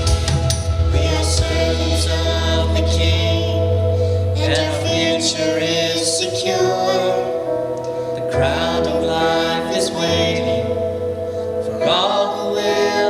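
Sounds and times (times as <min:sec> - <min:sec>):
gospel singing: 0:00.0 - 0:13.0
instrumental accompaniment: 0:00.0 - 0:13.0
long held bass notes: 0:00.0 - 0:13.0.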